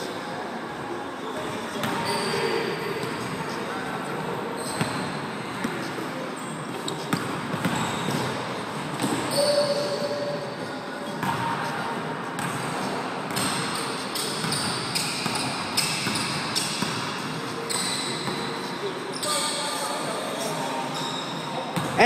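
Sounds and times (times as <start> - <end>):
sneakers squeaking: 1.2 - 11.8, 12.4 - 22.0.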